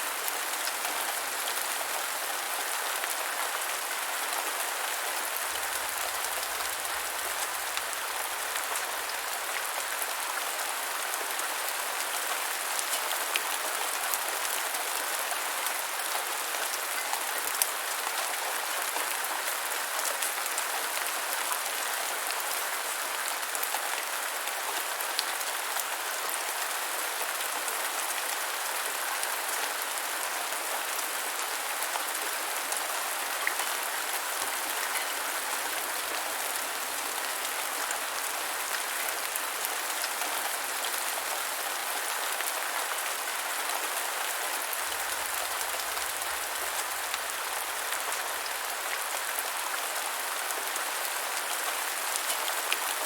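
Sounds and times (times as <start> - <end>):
rain falling on ground: 0.0 - 53.0.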